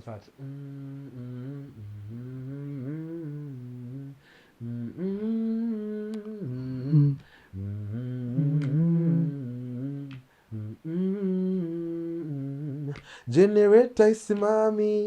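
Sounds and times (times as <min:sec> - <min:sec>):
man humming a melody: 0:00.3 - 0:15.0.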